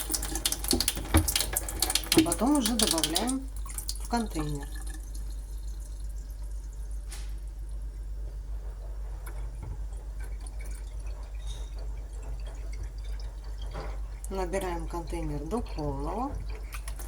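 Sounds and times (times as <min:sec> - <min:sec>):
water running from a tap: 0:00.0 - 0:07.7, 0:09.2 - 0:17.0.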